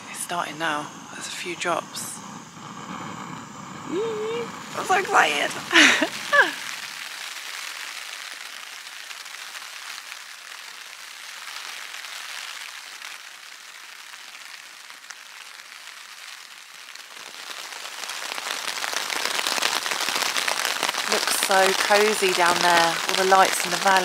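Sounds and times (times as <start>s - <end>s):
rain pattering on a tent: 3.9s - 24.0s.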